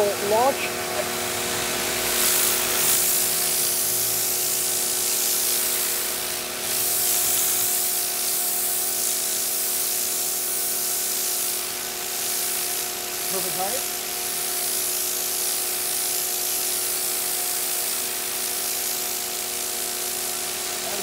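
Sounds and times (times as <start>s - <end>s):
high-pressure water jet hissing: 0.0s - 21.0s
pressure washer motor humming: 0.0s - 21.0s.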